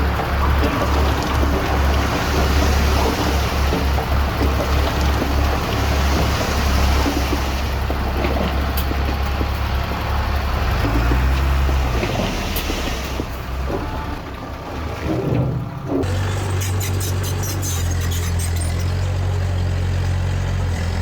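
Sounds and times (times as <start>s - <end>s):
diesel machinery engine drone: 0.0s - 21.0s.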